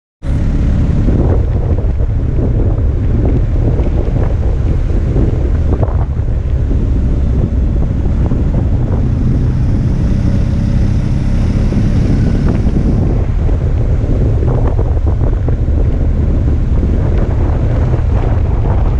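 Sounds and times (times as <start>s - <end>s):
motorcycle engine running: 0.2s - 18.9s
wind rushing on microphone: 0.2s - 18.9s.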